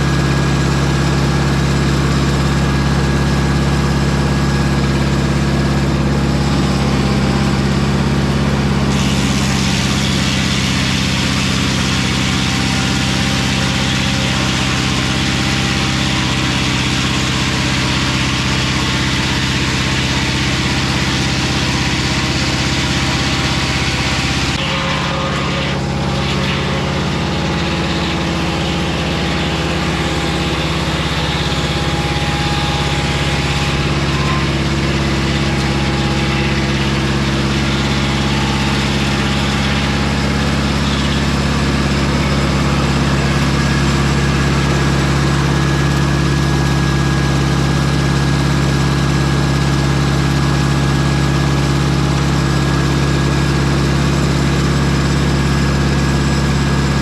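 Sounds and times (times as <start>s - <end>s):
saw blade cutting log: 0.0s - 57.0s
sawmill engine running: 0.0s - 57.0s.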